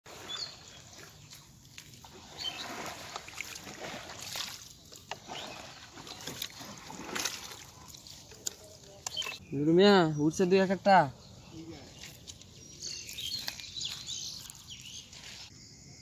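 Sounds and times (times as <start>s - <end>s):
muddy water sloshing and splashing: 0.0s - 9.4s, 11.8s - 15.5s.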